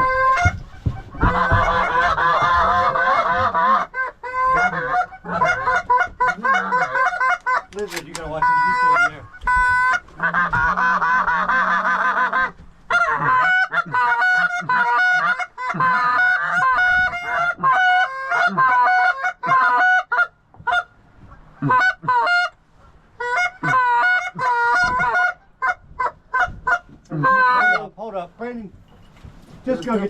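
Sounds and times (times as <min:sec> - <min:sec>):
geese honking: 0:00.0 - 0:20.9, 0:23.2 - 0:28.1.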